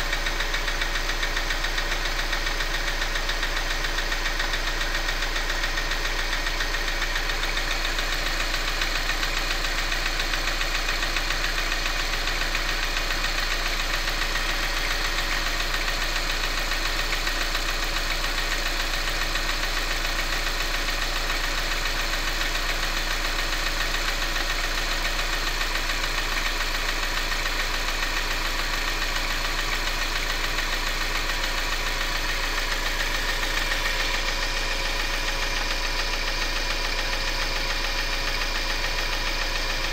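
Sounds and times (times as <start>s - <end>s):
engine running with repetitive knock: 0.0s - 39.9s.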